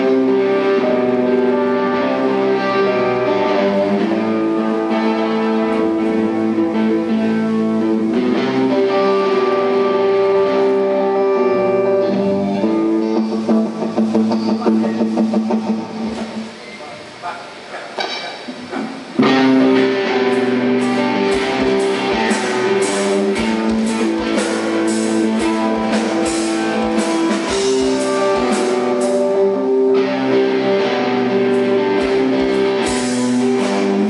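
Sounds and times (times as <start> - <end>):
bass guitar: 0.0 - 16.7, 17.9 - 34.0
electric guitar melody: 0.0 - 16.7, 18.0 - 34.0.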